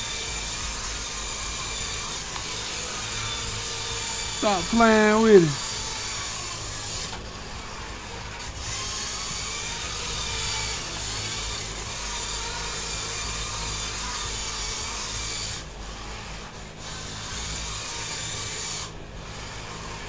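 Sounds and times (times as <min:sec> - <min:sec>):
toy car electric motor whining: 0:00.0 - 0:20.0.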